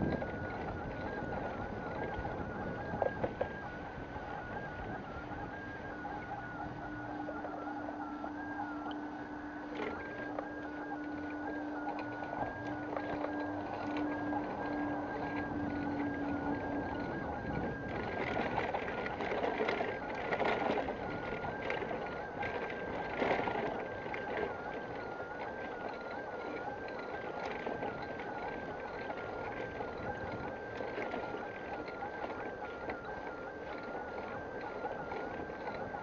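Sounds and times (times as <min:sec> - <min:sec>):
bicycle rattling: 0:00.0 - 0:36.0
bicycle tyres rolling: 0:00.0 - 0:36.0
wind on microphone: 0:00.0 - 0:36.0.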